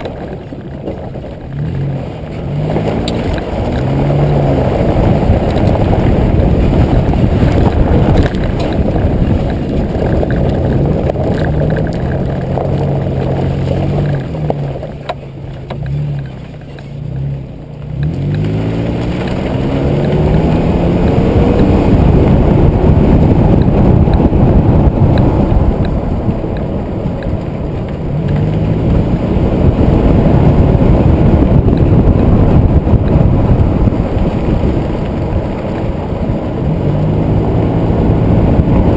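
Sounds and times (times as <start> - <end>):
car engine and exhaust rumble: 0.0 - 38.9.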